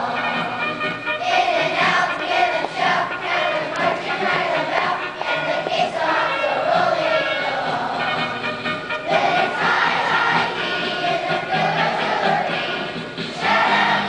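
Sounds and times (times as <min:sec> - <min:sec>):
children's choir singing: 0:00.0 - 0:14.0
musical accompaniment: 0:00.0 - 0:14.0.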